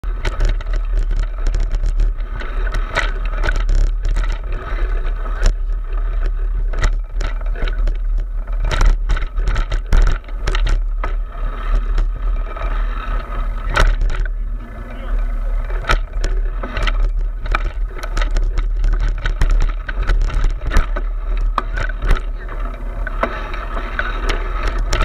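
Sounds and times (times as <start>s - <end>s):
wind buffeting camera: 0.0s - 25.0s.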